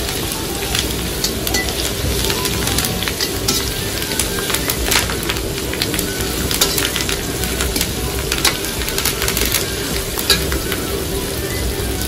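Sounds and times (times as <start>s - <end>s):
spices sizzling in oil: 0.0s - 12.0s
metal spatula scraping a pan: 0.7s - 11.4s.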